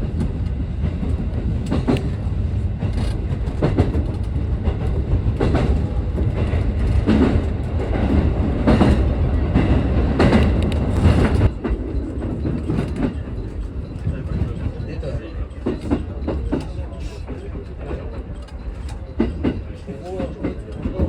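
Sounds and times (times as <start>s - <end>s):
rail joints clacking: 0.0s - 21.0s
train wheels rumbling on rail: 0.0s - 21.0s.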